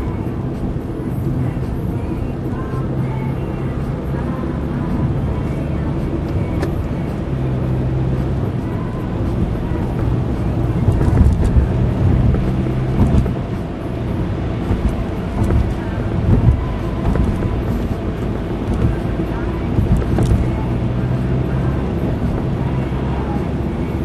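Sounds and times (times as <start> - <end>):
car engine drone: 0.0 - 24.0
tyre and road rumble: 0.0 - 24.0.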